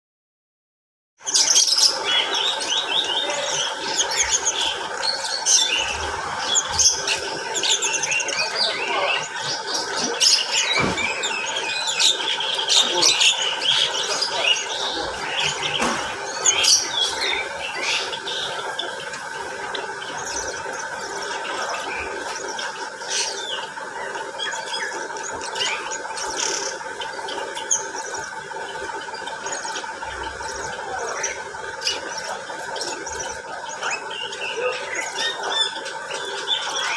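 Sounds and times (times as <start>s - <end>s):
flock of birds chattering: 1.2s - 36.9s.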